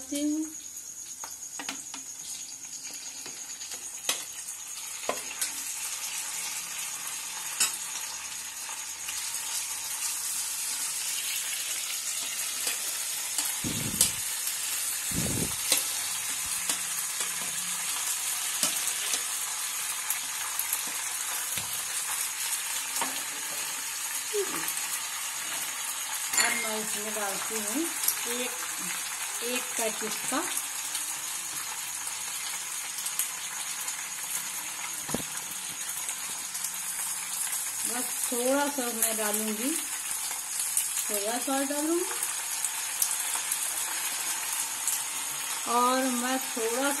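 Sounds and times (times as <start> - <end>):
pasta sizzling in hot oil: 0.0 - 47.0.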